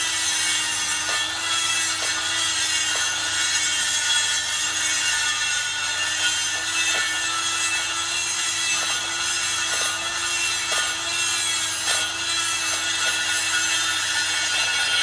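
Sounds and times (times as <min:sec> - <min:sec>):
power tool rasping metal: 0:00.0 - 0:15.0.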